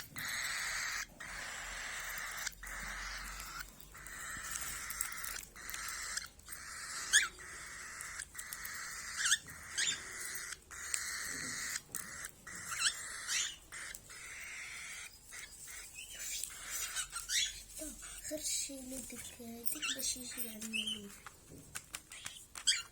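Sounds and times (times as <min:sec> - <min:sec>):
sharp bird calls: 0:00.0 - 0:18.5, 0:19.8 - 0:21.2
caged birds chirping: 0:00.0 - 0:22.9.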